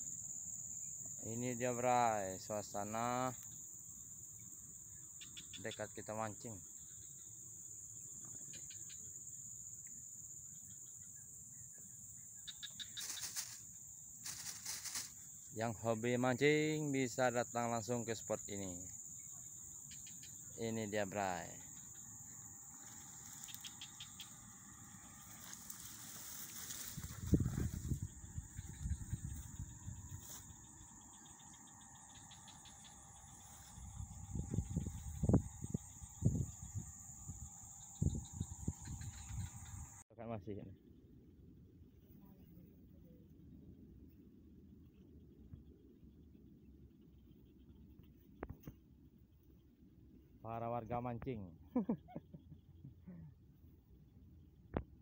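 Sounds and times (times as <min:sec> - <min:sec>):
insects chirring: 0:00.0 - 0:41.2, 0:41.8 - 0:55.0.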